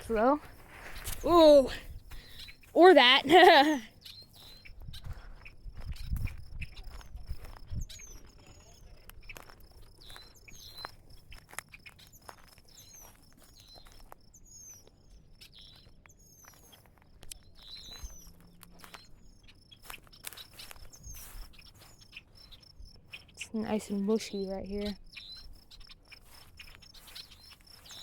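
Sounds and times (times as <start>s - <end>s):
footsteps crunching through brush: 0.0s - 2.8s, 4.4s - 14.2s, 15.6s - 23.3s, 25.4s - 28.0s
crickets trilling: 0.0s - 28.0s
small birds chirping: 0.0s - 28.0s.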